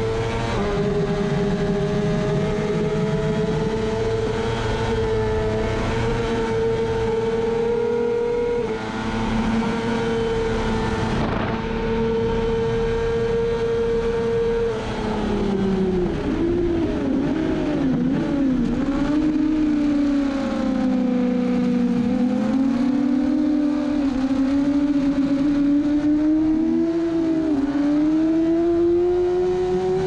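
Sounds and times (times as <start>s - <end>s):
motorcycle engine at full throttle: 0.0s - 30.0s
wind noise: 0.0s - 30.0s.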